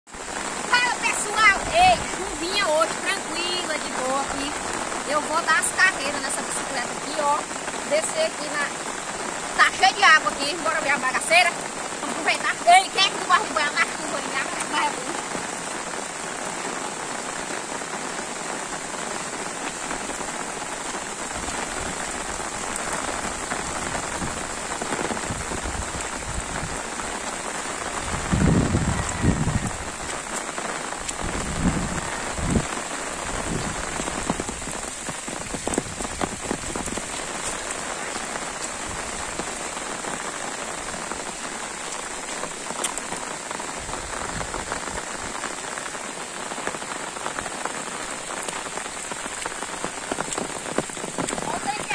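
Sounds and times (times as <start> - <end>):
rain falling on leaves: 0.1 - 51.9.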